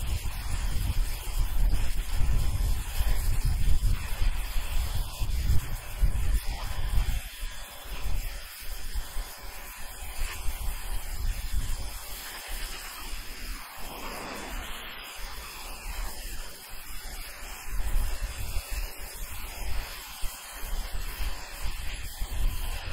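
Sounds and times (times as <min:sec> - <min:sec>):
pressure washer spraying water: 0:00.0 - 0:22.9.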